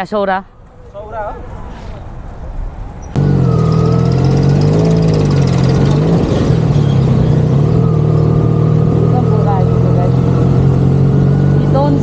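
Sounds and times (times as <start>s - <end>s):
motorcycle engine running: 0.6s - 12.0s.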